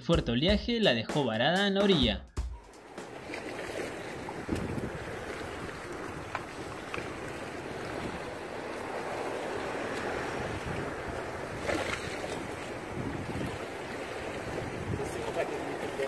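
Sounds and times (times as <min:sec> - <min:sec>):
surf rushing: 0:02.5 - 0:16.0
wind buffeting microphone: 0:02.8 - 0:16.0.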